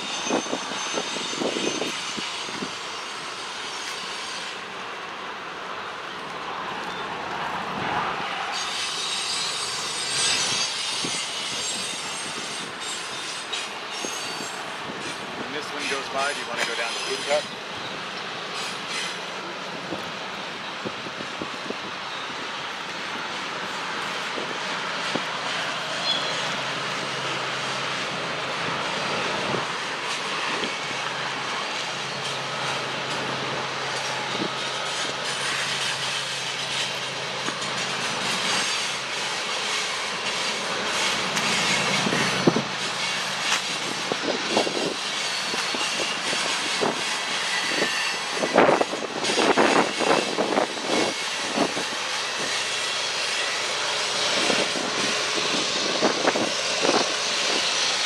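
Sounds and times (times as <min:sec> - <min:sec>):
wind gusting on microphone: 0:00.0 - 0:02.9, 0:10.0 - 0:16.6, 0:19.4 - 0:39.1, 0:39.7 - 0:58.0
freight train rail noise: 0:00.0 - 0:58.0.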